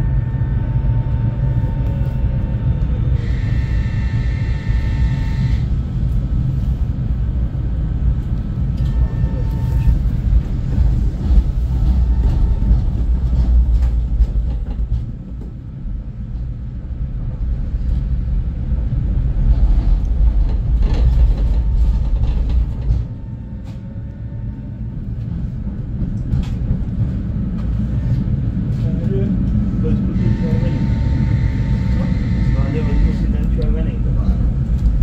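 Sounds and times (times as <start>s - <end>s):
tram wheels rumbling on rail: 0.0s - 35.0s.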